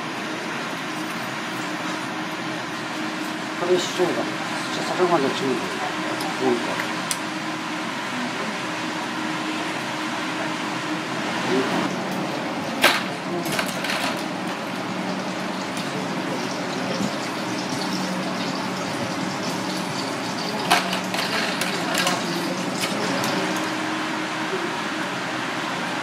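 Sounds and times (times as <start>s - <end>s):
low kitchen hum: 0.0s - 26.0s
water boiling in a pot: 0.0s - 26.0s.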